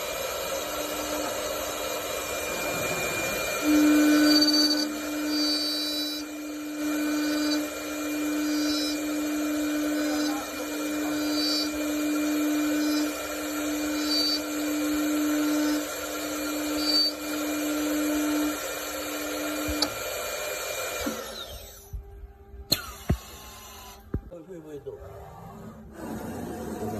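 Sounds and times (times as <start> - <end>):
lathe motors whining: 0.0 - 26.9
wood cutting noise: 0.0 - 26.9.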